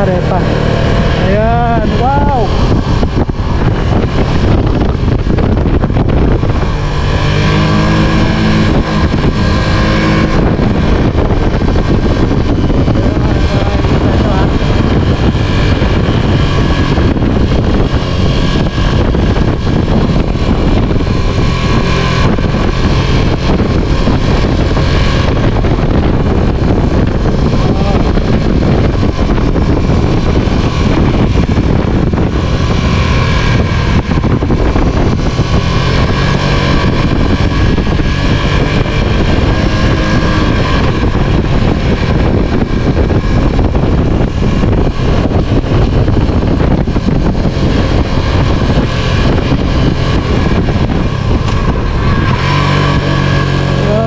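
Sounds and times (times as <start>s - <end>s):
vehicle running: 0.0s - 54.0s
wind buffeting the microphone: 0.0s - 54.0s.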